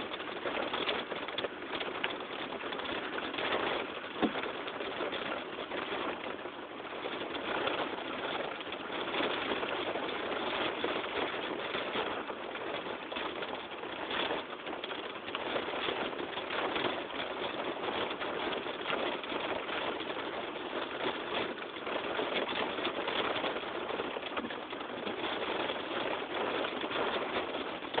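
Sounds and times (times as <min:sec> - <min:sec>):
heavy rain on car roof: 0:00.0 - 0:28.0.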